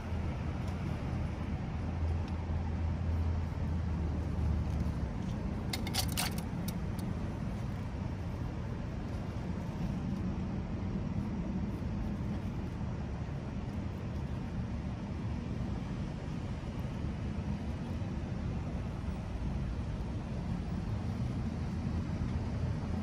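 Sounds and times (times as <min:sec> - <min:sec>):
cars passing on street: 0:00.0 - 0:23.0.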